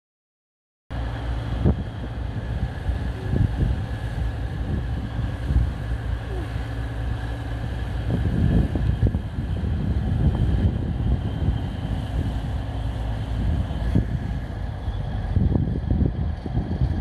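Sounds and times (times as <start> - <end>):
train engines rumbling: 0.9 - 17.0.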